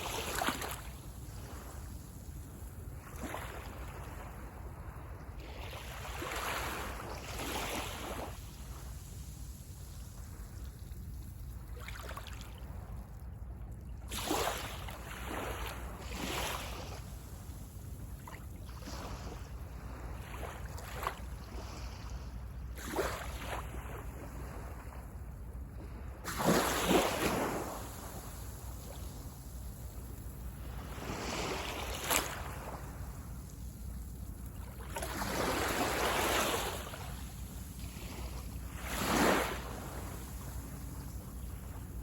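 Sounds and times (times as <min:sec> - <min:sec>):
small waves breaking on beach: 0:00.0 - 0:13.1, 0:14.1 - 0:42.0
low rumble of surf: 0:00.0 - 0:42.0.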